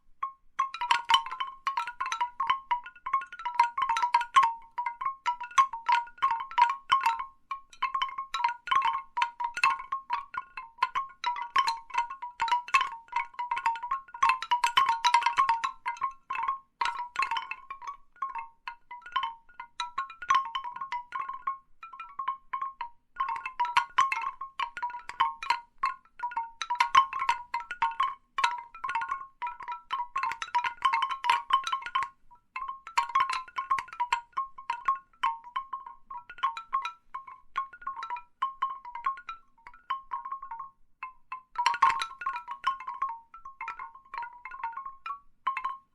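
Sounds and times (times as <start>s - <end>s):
bamboo wind chimes clacking: 0.0s - 45.9s.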